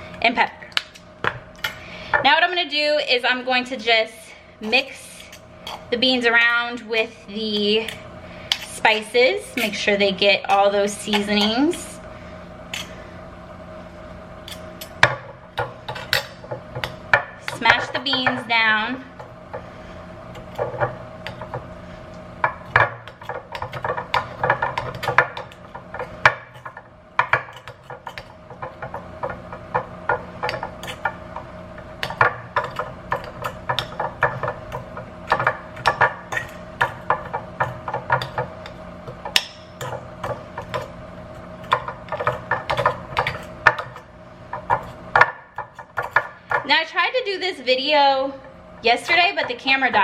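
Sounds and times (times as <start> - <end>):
utensil mashing beans in a bowl: 4.6 - 12.0, 14.4 - 47.1, 48.8 - 50.0.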